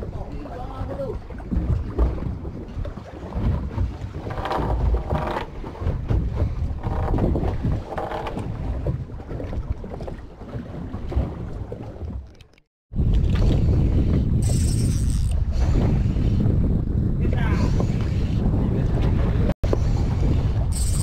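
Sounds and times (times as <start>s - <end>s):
wind buffeting microphone: 0.0s - 12.2s, 12.9s - 21.0s
water sounds: 0.0s - 21.0s.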